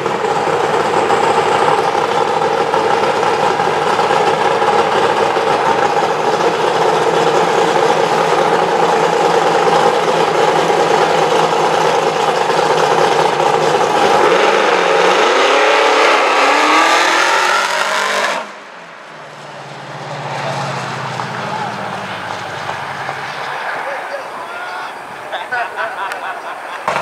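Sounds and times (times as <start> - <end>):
drag car engine accelerating: 0.0 - 27.0.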